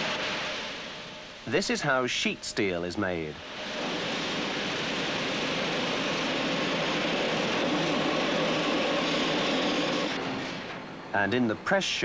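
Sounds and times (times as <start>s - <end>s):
faint machinery hum: 0.0s - 12.0s
steam and water hissing: 0.0s - 12.0s.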